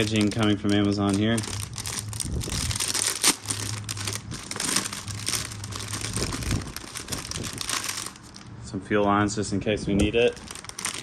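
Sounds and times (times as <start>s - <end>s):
packaging crinkling and rustling: 0.0s - 8.5s, 9.9s - 11.0s.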